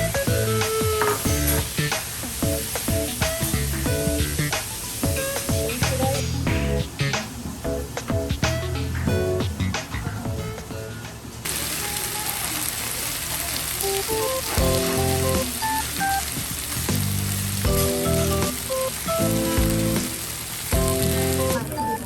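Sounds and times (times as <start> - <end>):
background music with simple melody: 0.0 - 11.3, 14.2 - 16.4, 17.0 - 22.0
food frying and sizzling: 0.0 - 22.0.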